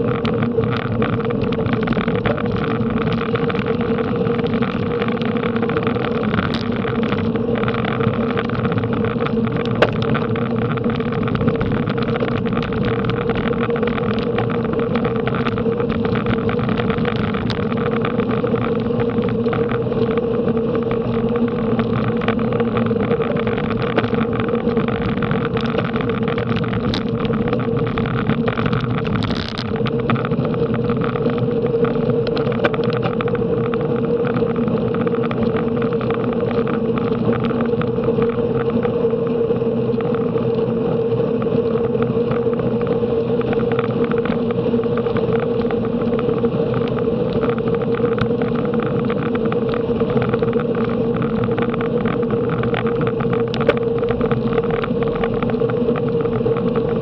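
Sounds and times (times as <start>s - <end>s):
bicycle road noise: 0.0s - 57.0s
steady hum: 0.0s - 57.0s.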